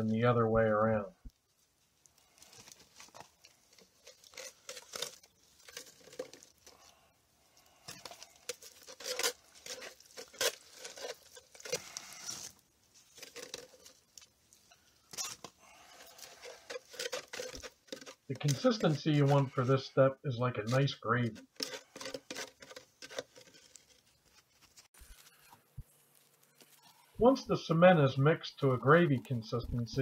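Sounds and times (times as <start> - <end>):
stick stirring cement mix: 2.0 - 27.3.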